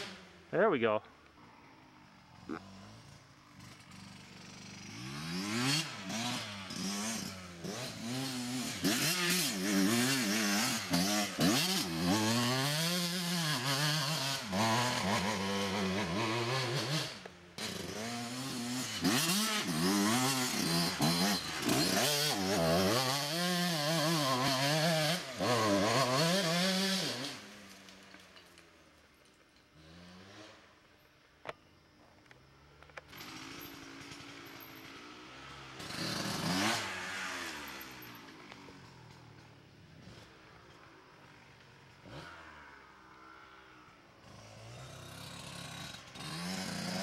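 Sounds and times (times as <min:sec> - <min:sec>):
dirt bike engine revving: 0:00.0 - 0:00.6, 0:01.9 - 0:28.0, 0:33.0 - 0:47.0.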